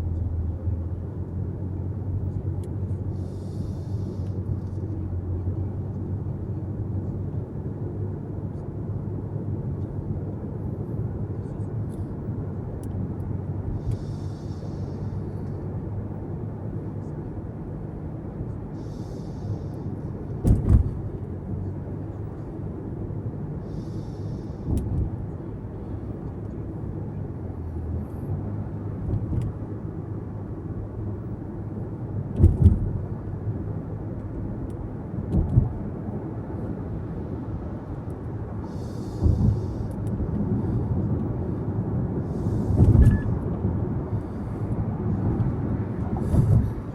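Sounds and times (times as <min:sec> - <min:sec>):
road and engine rumble: 0:00.0 - 0:46.9.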